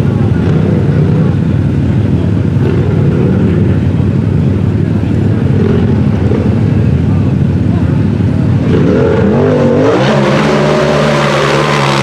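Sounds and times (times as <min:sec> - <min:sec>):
off-road buggy engine running: 0:00.0 - 0:12.0.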